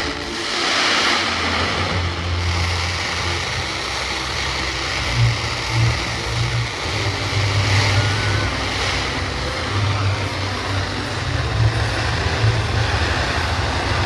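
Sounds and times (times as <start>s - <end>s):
fireworks booming: 0.0s - 14.0s
steady noisy haze: 0.0s - 14.0s.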